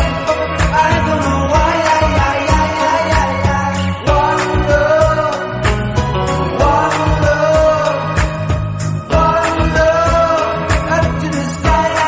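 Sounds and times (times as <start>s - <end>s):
music with steady beat: 0.0s - 12.0s
sung melody: 0.0s - 12.0s.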